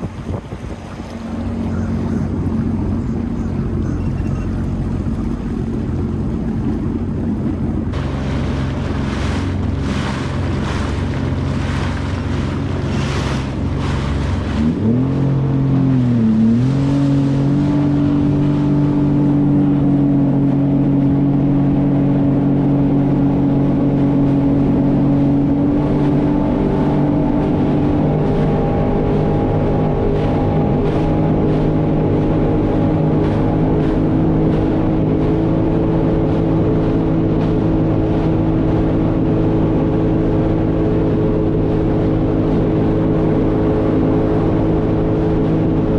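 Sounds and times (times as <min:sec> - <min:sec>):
jet ski engine running: 0:00.0 - 0:45.9
rushing water surging: 0:00.0 - 0:45.9.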